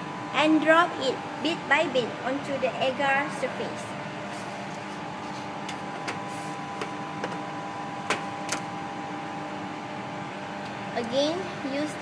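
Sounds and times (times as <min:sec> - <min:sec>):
blower hum: 0:00.0 - 0:12.0.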